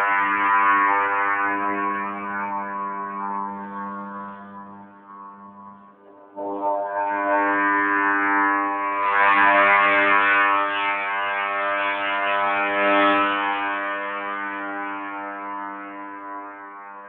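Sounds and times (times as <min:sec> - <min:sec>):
brassy trumpet-like drone: 0:00.0 - 0:16.9.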